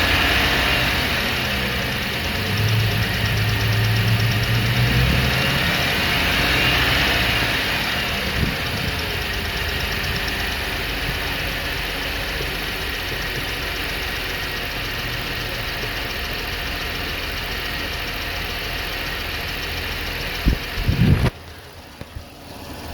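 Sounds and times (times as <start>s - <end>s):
car engine idling: 0.0s - 22.9s
fast engine ticking: 0.0s - 22.9s.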